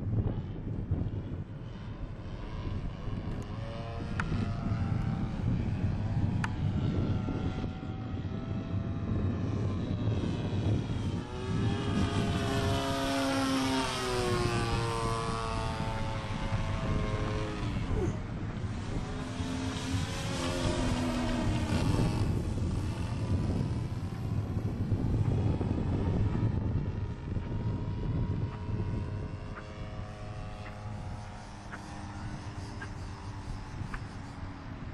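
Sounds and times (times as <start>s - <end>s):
model airplane engine droning: 0.0s - 34.9s
wind noise on microphone: 0.0s - 34.9s.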